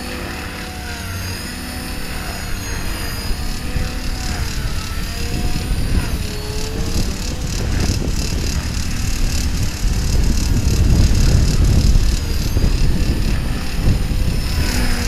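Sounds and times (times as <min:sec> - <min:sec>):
radio-controlled helicopter flying: 0:00.0 - 0:15.0
wind rumble on microphone: 0:00.0 - 0:15.0.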